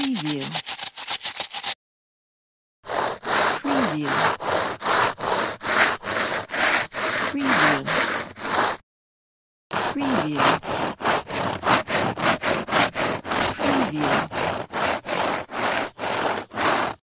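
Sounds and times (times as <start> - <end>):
saw cutting wood: 0.0 - 1.8, 2.8 - 8.8, 9.7 - 17.0.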